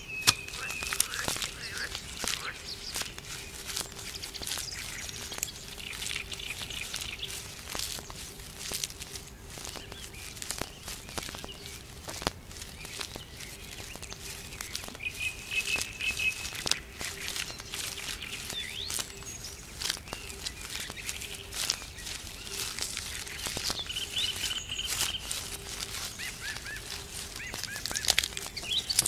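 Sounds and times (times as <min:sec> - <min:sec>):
birds chirping: 0:00.0 - 0:29.0
small clicks and crackles: 0:00.0 - 0:29.0.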